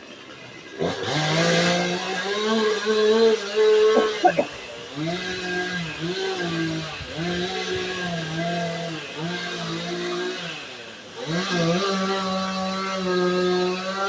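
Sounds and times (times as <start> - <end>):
chainsaw cutting at high revs: 0.0 - 14.0.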